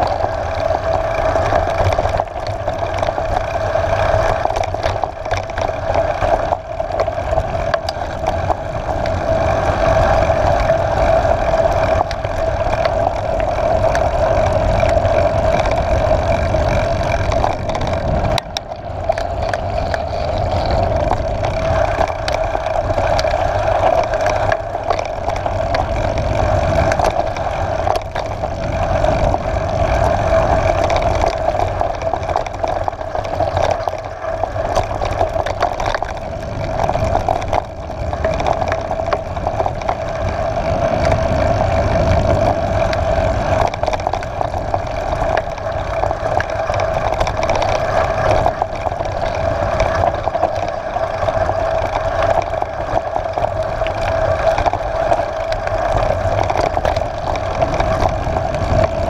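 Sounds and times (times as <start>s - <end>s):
bike rattling on bumps: 0.0s - 59.0s
bike tyres rumbling on gravel: 0.0s - 59.0s.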